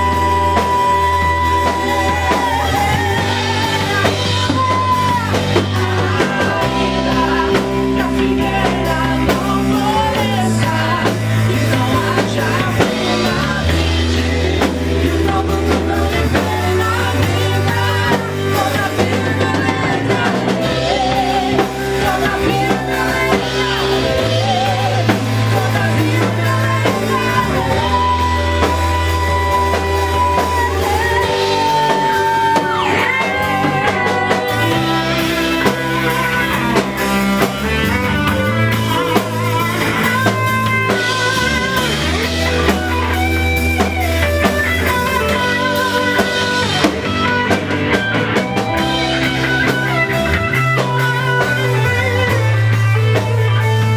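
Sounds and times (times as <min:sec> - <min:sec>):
live band playing: 0:00.0 - 0:53.9
person singing: 0:00.0 - 0:53.9.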